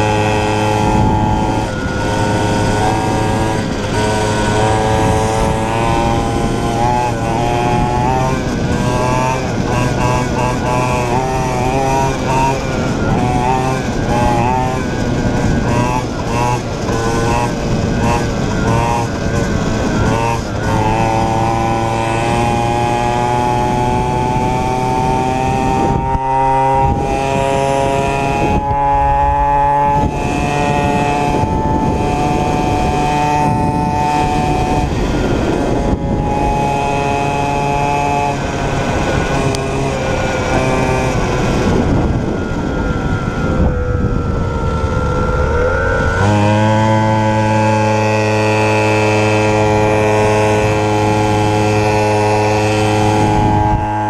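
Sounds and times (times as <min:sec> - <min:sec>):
two-stroke motorbike engine: 0:00.0 - 0:54.0
wind rushing over microphone: 0:00.0 - 0:54.0.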